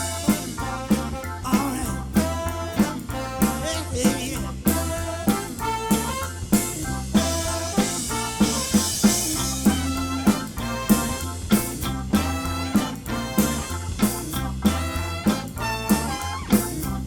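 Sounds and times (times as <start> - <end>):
drum kit beat: 0.0 - 17.0
soul band playing instrumental: 0.0 - 17.0.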